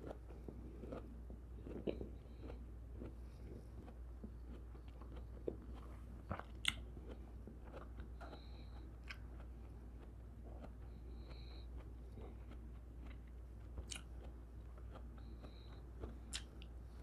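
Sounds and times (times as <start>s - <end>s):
wet chewing with clicks: 0.0s - 16.8s
low steady hum: 0.0s - 17.0s.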